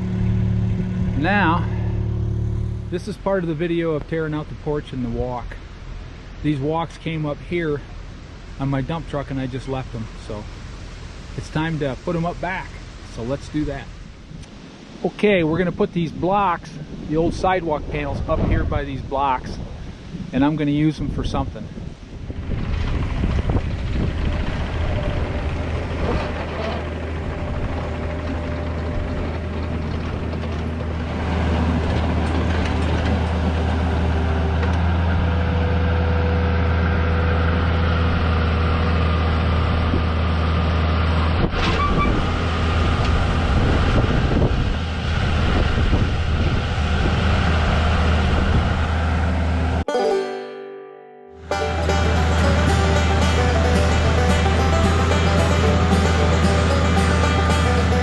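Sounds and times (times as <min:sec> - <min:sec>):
tractor engine running: 0:00.0 - 0:13.8, 0:22.3 - 0:49.8, 0:51.4 - 0:58.0.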